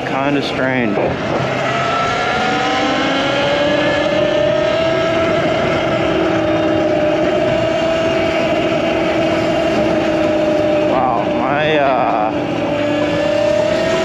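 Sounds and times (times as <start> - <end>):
electric motorbike motor whine: 0.0 - 14.0
wind and road noise: 0.0 - 14.0.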